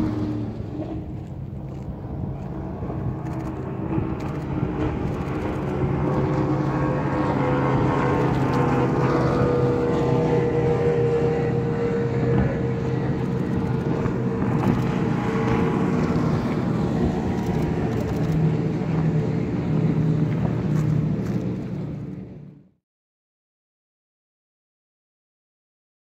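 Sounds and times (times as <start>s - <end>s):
speedboat engines droning: 0.0s - 22.6s.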